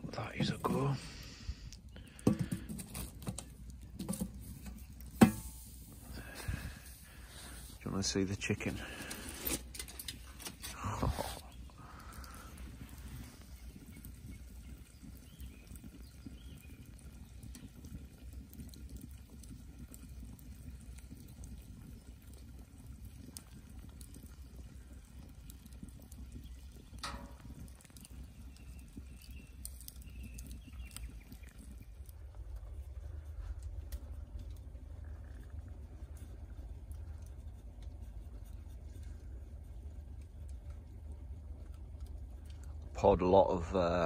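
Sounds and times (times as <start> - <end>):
campfire crackling: 0.0 - 44.0
low steady rumble: 0.0 - 44.0.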